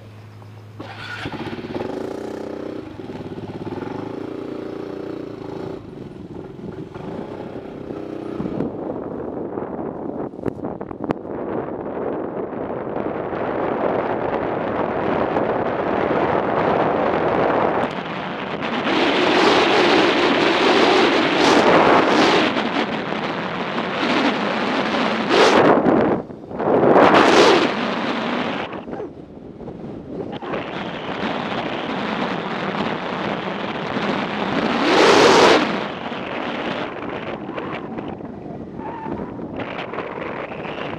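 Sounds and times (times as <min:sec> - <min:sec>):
motorcycle road and engine noise: 0:00.0 - 0:40.9
wind rushing over microphone: 0:00.0 - 0:40.9.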